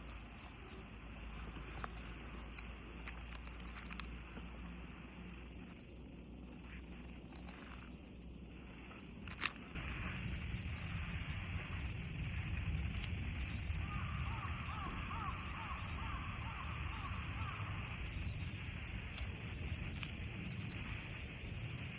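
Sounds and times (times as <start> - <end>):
crickets trilling: 0.0 - 21.9
low background rumble: 0.0 - 21.9.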